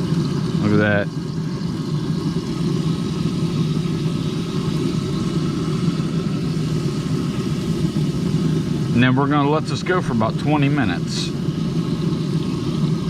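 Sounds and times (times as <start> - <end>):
steady low hum and rumble: 0.0 - 13.0.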